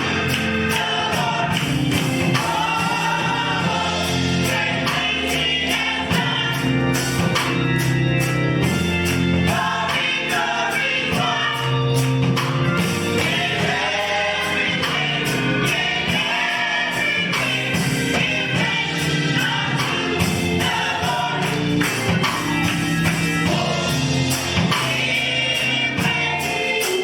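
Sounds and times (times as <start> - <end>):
band playing steady beat: 0.0 - 27.0
gospel choir singing: 0.0 - 27.0.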